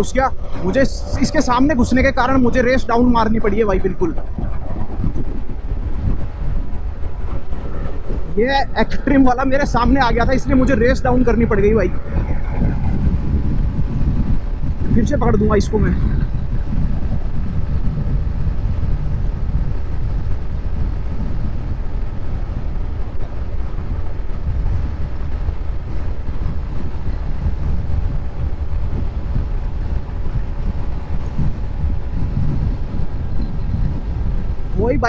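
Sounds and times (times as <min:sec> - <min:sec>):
motorcycle engine drone: 0:00.0 - 0:35.0
wind buffeting on microphone: 0:00.0 - 0:35.0.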